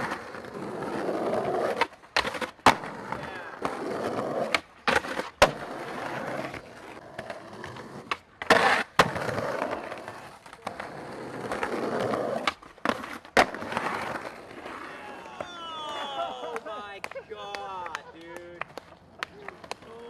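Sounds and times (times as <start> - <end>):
skateboard popping and landing clacks: 0.0 - 20.0
skateboard wheels rolling on concrete: 0.0 - 20.0.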